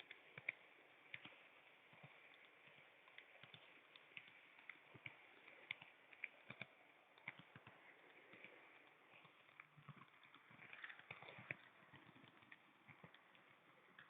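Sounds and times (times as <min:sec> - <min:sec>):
low steady hiss: 0:00.0 - 0:14.0
model train clicks and ticks: 0:00.0 - 0:14.0.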